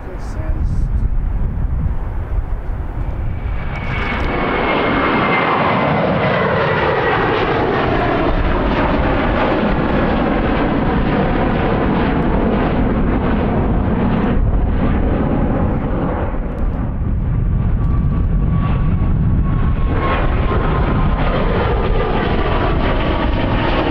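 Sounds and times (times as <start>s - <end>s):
jet airliner roar: 0.0s - 23.9s.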